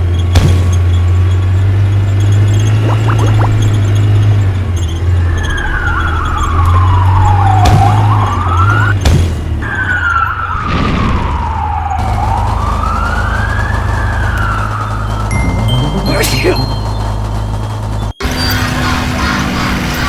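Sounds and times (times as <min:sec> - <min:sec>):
siren wailing: 0:02.6 - 0:09.0, 0:09.6 - 0:20.0.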